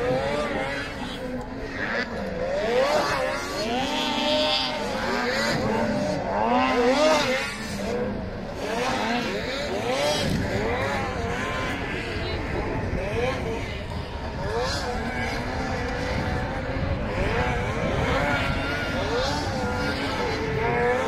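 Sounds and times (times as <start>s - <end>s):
snowmobile engines revving: 0.0s - 21.0s.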